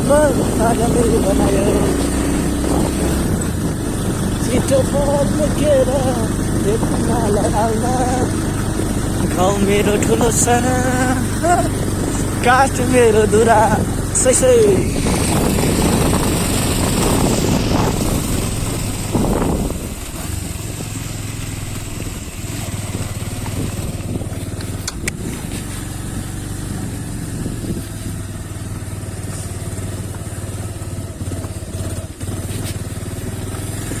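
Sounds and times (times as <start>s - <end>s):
motorcycle knocking over bumps: 0.0s - 14.3s, 15.0s - 34.0s
motorcycle engine running: 0.0s - 34.0s.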